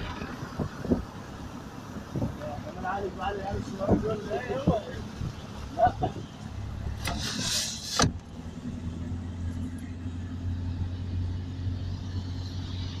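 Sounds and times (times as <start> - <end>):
car engine and tyres on wet road: 0.0 - 13.0.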